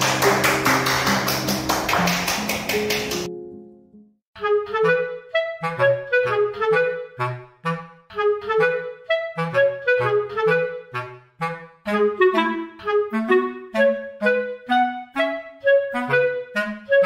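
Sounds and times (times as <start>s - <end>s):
bouncy instrumental tune: 0.0s - 17.0s.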